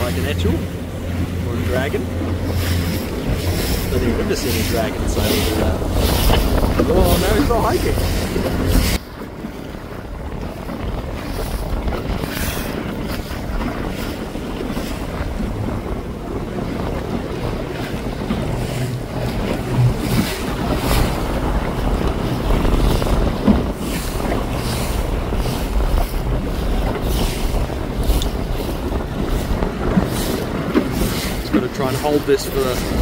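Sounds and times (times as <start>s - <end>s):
water washing around a boat: 0.0s - 33.0s
wind buffeting microphone: 0.0s - 33.0s.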